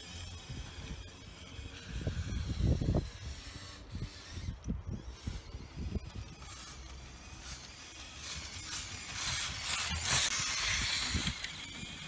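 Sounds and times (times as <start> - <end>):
small electric drivetrain whine: 0.0 - 12.0
toy truck tyres hissing: 0.0 - 12.0.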